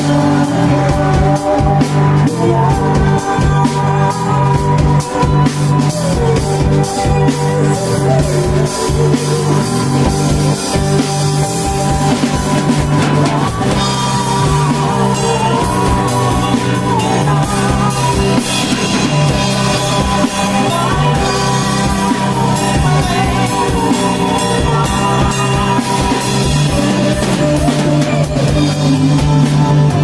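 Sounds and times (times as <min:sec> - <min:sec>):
person singing: 0:00.0 - 0:30.0
rock band playing live: 0:00.0 - 0:30.0.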